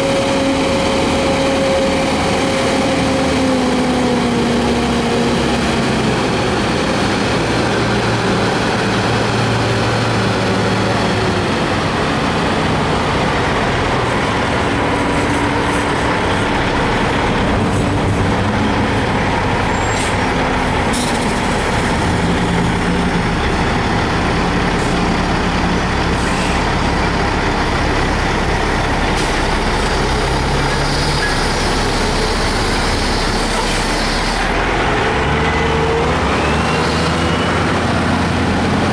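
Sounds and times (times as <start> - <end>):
diesel trucks engines running: 0.0 - 38.9.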